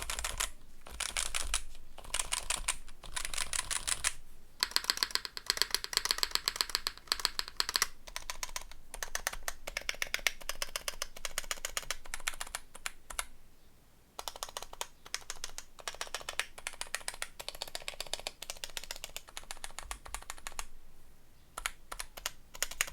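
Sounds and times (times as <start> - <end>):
fast typing on mechanical keyboard: 0.0 - 13.3, 14.2 - 20.7, 21.6 - 22.9.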